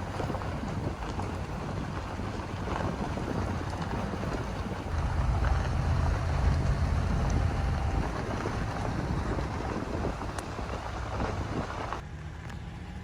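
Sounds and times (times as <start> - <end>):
wind buffeting microphone: 0.0 - 12.0
truck engine and road noise: 0.0 - 13.0.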